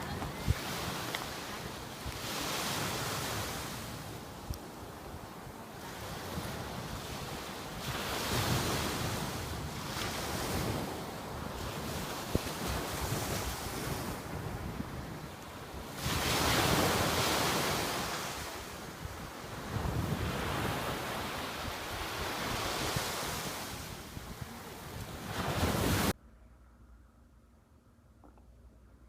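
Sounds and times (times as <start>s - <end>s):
ocean surf: 0.0s - 26.2s
wind buffeting microphone: 0.0s - 26.2s.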